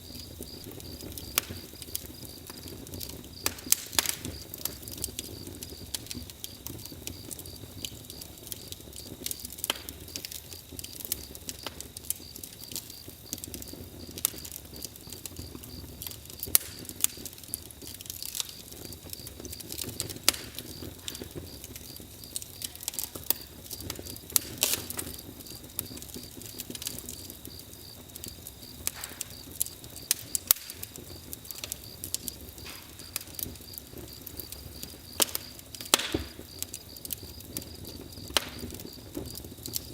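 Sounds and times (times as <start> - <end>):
campfire crackling: 0.0 - 39.9
low steady hiss: 0.0 - 39.9.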